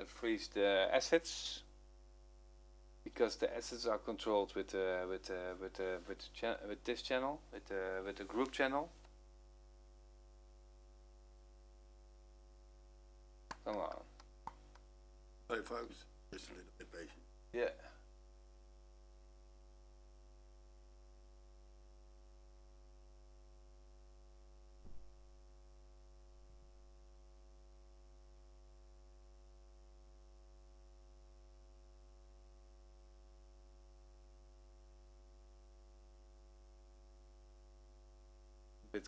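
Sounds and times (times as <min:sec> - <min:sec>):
low electrical mains hum: 0:00.0 - 0:39.0.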